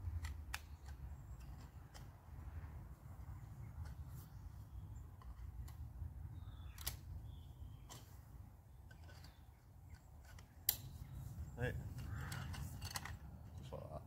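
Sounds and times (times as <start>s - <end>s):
tent pole sections clicking: 0.0s - 7.2s, 7.8s - 11.2s, 11.8s - 14.0s.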